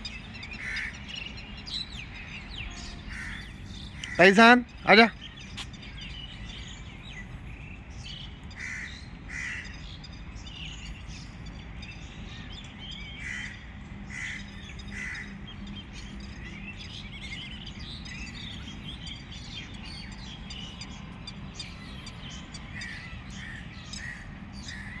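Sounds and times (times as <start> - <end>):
birds calling: 0.0 - 25.0
low background noise: 0.0 - 25.0.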